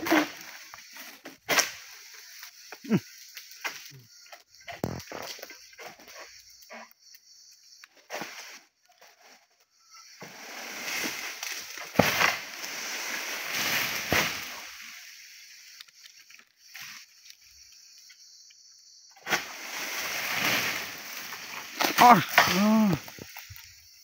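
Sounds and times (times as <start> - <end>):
palm fronds rustling and scraping: 0.0 - 6.4, 7.9 - 17.9, 19.2 - 24.0.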